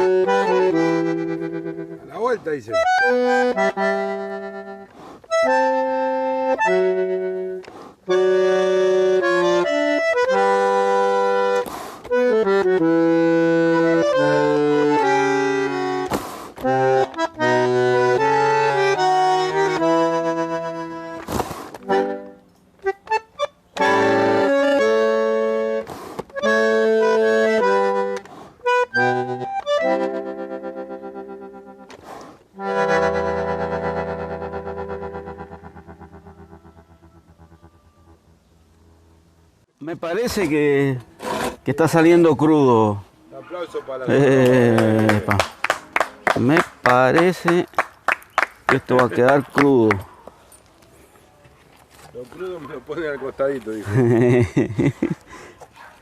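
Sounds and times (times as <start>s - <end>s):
accordion playing: 0.0s - 39.7s, 44.1s - 50.1s.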